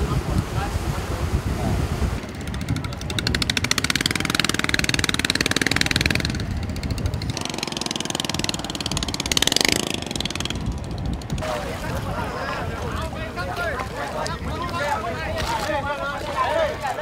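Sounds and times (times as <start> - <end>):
boat engine puttering: 2.1 - 17.0.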